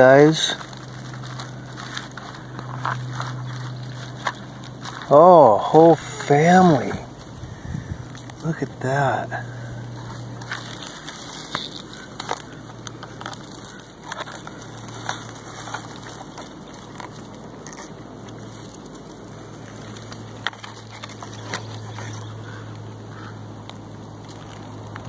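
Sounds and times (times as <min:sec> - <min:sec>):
dry grass and gravel crunching: 0:00.0 - 0:25.0
low steady hum: 0:00.0 - 0:25.0.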